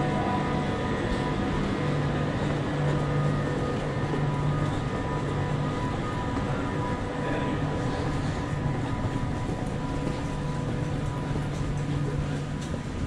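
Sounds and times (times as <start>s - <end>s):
electric train humming and whining: 0.0s - 13.0s.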